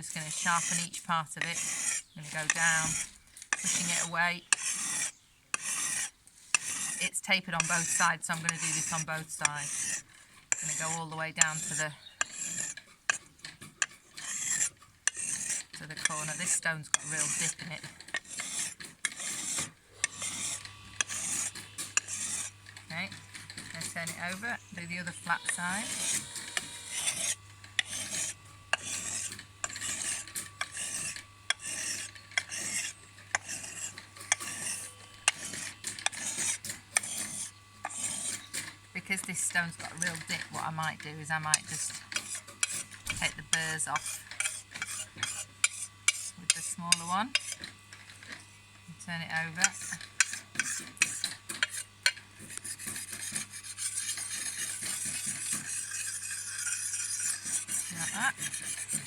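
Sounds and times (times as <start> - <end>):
blade rasping on sharpening stone: 0.0 - 48.4, 49.4 - 59.0.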